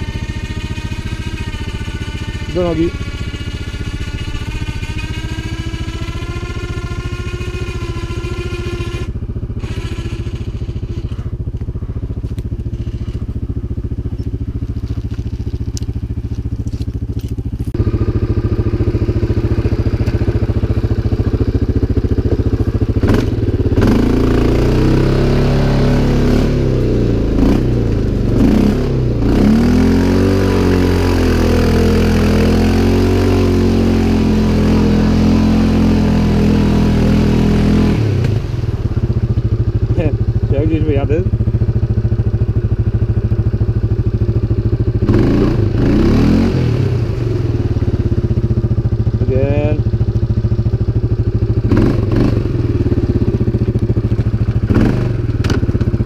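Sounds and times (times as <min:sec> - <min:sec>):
quad engine running and revving: 0:00.0 - 0:56.0.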